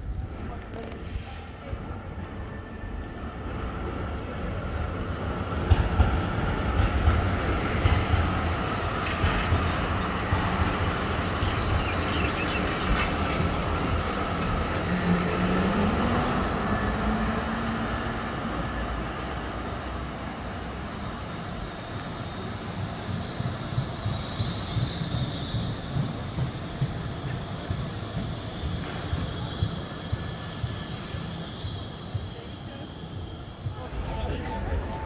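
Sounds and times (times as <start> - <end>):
tram wheels on rails: 0.0 - 35.0
tram motor tone rising: 4.6 - 35.0.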